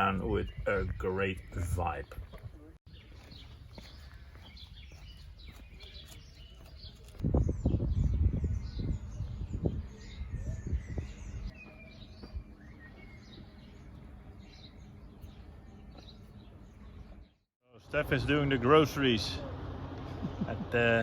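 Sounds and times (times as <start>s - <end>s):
small birds chirping: 0.0s - 17.5s.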